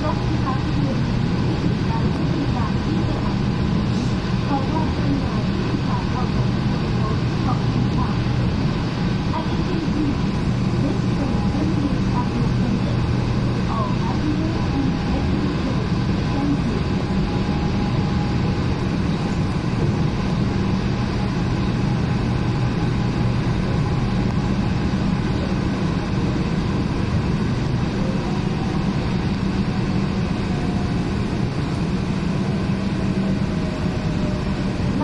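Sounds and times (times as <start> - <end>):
steady low hum: 0.0 - 35.0
train running rumble: 0.0 - 35.0.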